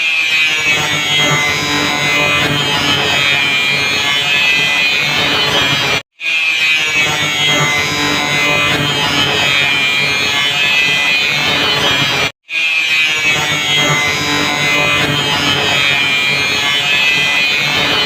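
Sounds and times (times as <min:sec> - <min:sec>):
electric grinder grinding: 0:00.4 - 0:06.0, 0:06.8 - 0:12.3, 0:13.0 - 0:18.0.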